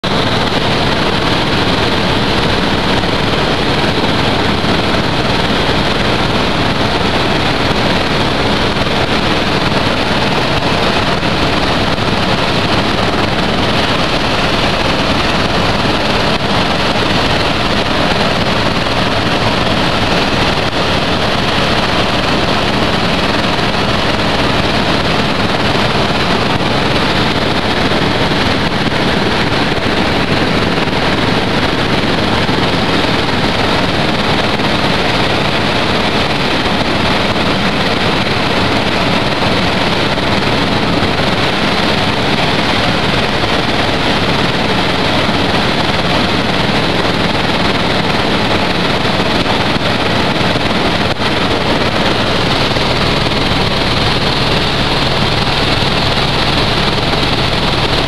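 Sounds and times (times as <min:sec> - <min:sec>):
helicopter engine and rotor noise: 0:00.0 - 0:58.0
rushing air: 0:00.0 - 0:58.0.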